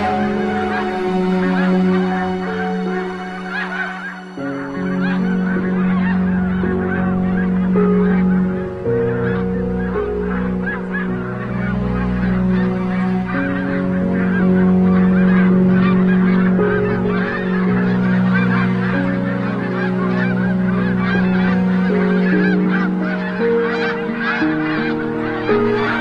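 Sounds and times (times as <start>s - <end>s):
geese honking: 0.0s - 26.0s
low sustained notes: 0.0s - 26.0s.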